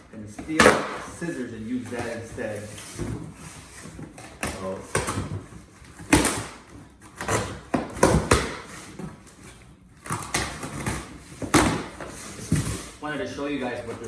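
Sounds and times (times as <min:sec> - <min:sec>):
cardboard scraping and knocking: 0:00.3 - 0:13.0.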